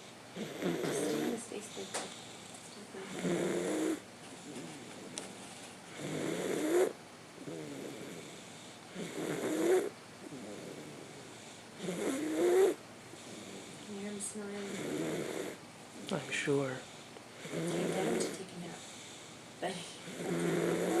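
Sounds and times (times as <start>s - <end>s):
boy snoring: 0.0s - 2.4s, 3.0s - 16.4s, 17.4s - 19.1s, 19.7s - 21.0s.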